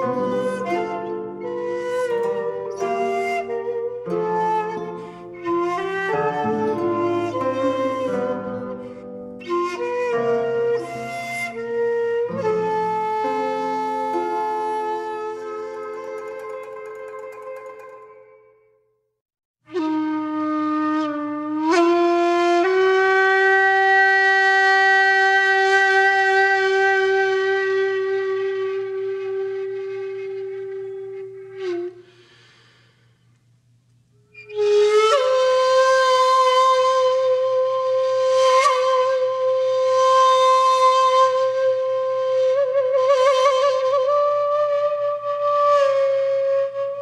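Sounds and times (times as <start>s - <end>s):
solo wind instrument long notes: 0.0s - 18.7s, 19.7s - 33.1s, 34.3s - 47.0s.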